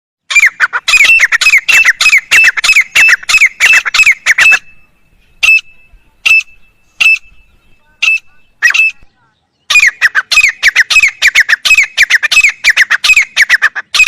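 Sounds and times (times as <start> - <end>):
francolin calling: 0.3 - 14.0.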